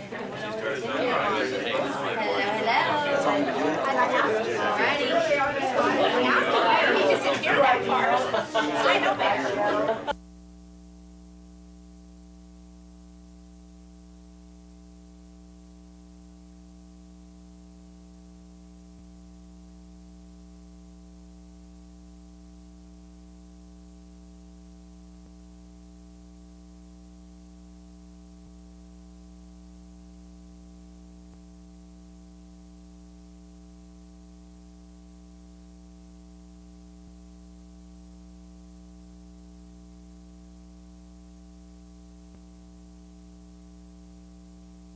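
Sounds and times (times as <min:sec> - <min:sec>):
electrical mains hum: 0:00.0 - 0:44.9.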